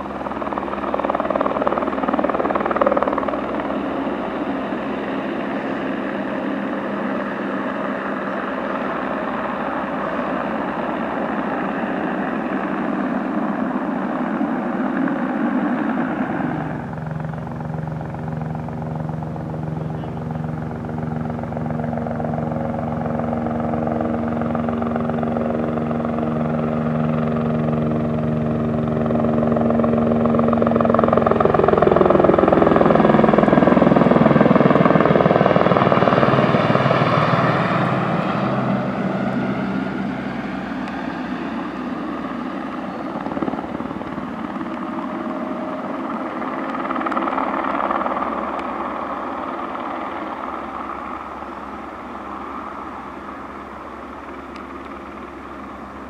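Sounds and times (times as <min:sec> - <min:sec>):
helicopter turbine and rotor: 0:00.0 - 0:56.0.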